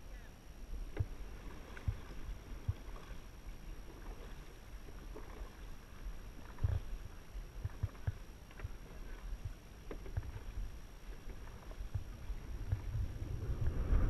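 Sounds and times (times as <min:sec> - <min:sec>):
water splashing along a hull: 0:00.0 - 0:14.0.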